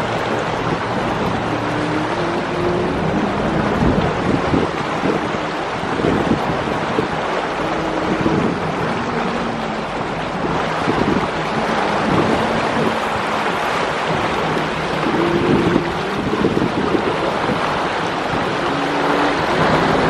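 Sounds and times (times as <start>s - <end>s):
boat engines running: 0.0s - 20.0s
faint low drone: 0.0s - 20.0s
rushing sea water: 0.0s - 20.0s
wind buffeting microphone: 0.0s - 20.0s.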